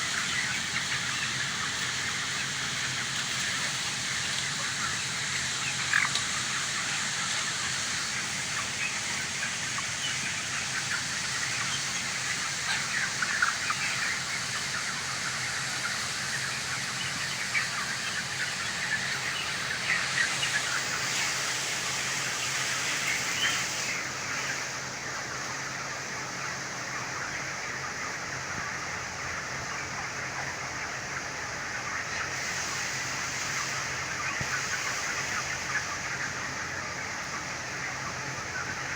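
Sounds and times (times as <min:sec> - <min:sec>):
chickens chirping: 0:00.0 - 0:38.9.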